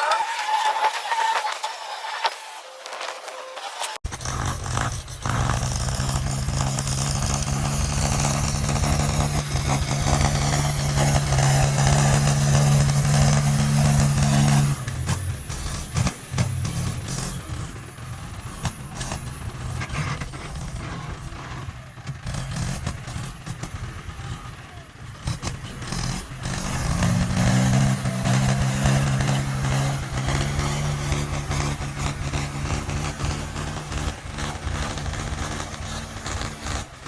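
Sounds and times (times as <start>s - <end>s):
clatter: 0.0s - 37.0s
heavy machine engine running: 0.0s - 37.0s.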